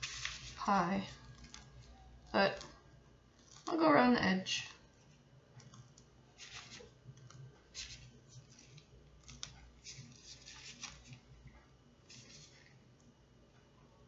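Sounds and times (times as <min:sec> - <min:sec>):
piping bag squishing: 0:00.0 - 0:11.5, 0:12.1 - 0:12.9.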